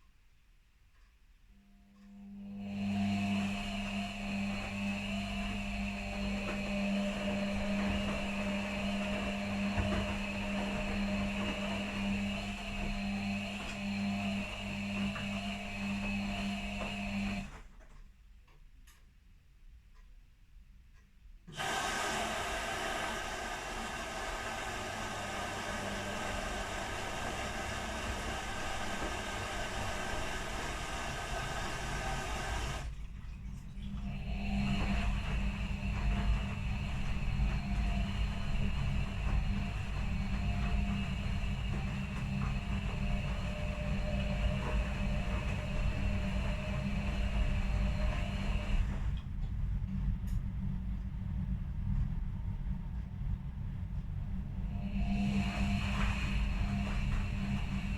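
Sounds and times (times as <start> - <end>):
washing machine motor hum: 1.5 - 18.0, 21.5 - 57.9.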